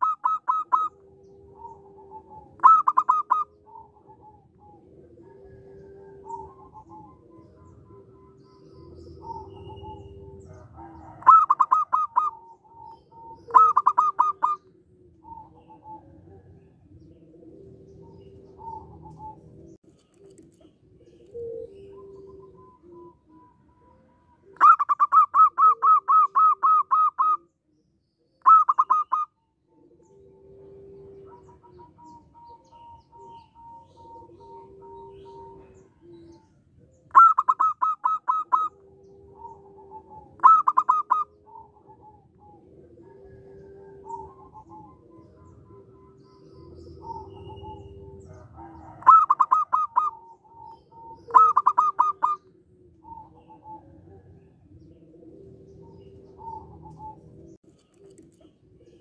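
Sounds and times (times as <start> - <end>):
doves calling staccato notes: 0.0 - 4.8, 5.7 - 23.7, 24.4 - 27.4, 28.4 - 29.3, 30.6 - 42.6, 43.5 - 58.4
doves cooing: 0.0 - 59.0.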